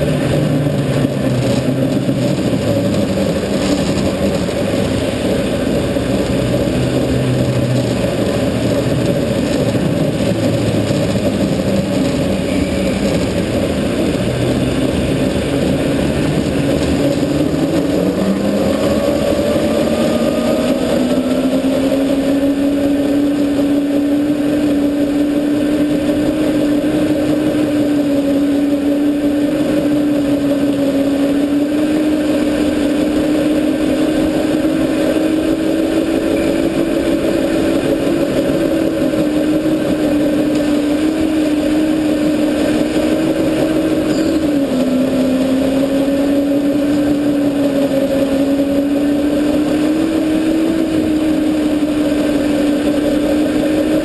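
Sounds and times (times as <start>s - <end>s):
go-kart motor running: 0.0s - 54.0s
rumble: 0.0s - 54.0s
wind noise: 0.0s - 54.0s.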